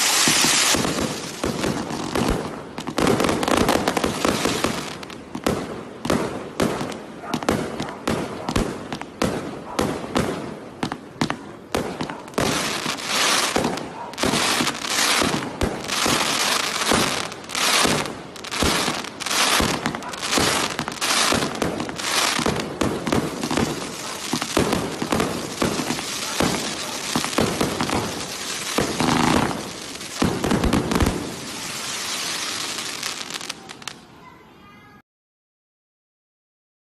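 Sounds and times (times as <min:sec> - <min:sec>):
firework barrage: 0:00.0 - 0:34.0
firework crackling: 0:00.0 - 0:34.1.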